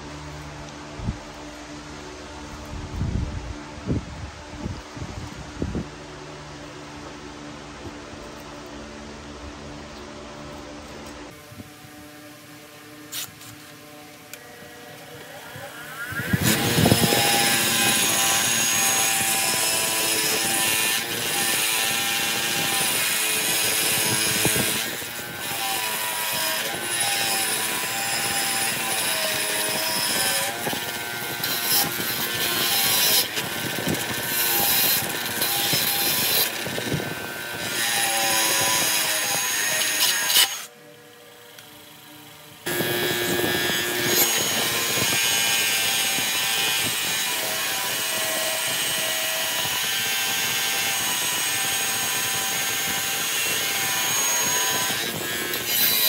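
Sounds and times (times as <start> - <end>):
power tool whirring: 9.8 - 56.0.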